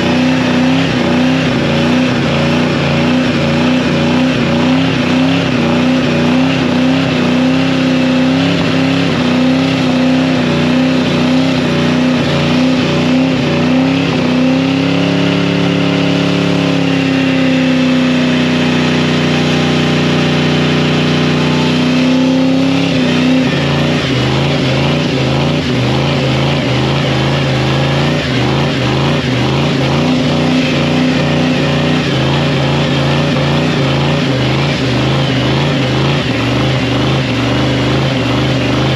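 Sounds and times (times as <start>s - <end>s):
truck engine revving high: 0.0s - 38.9s.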